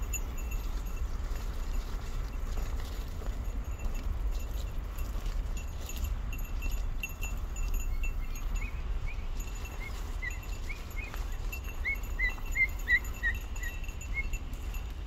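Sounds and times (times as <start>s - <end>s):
faint jingle of small bells: 0.0s - 15.0s
rustling crop: 0.0s - 15.0s
wind rumbling on microphone: 0.0s - 15.0s.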